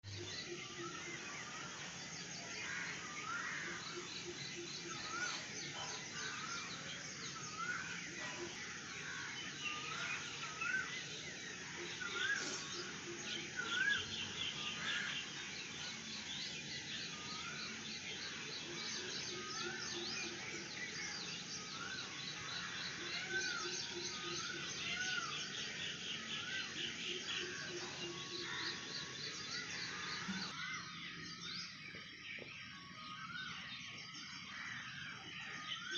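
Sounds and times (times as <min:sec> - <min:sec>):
faint steady background noise: 0:00.0 - 0:35.9
birds high trills: 0:00.1 - 0:35.9.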